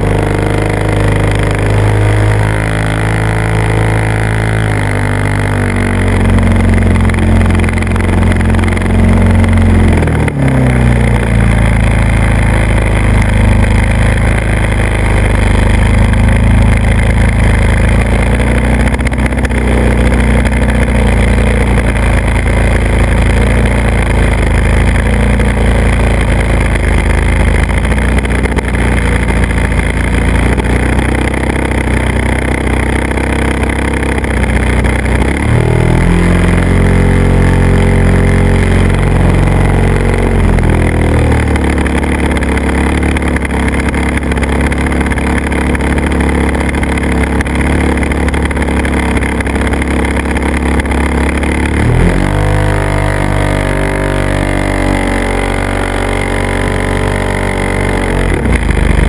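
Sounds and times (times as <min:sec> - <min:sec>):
model airplane motor and propeller: 0:00.0 - 0:59.0.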